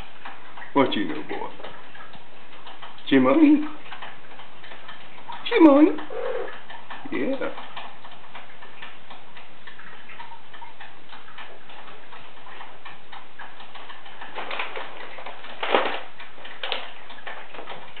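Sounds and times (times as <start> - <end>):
faint ticking and clicking: 0.0 - 18.0.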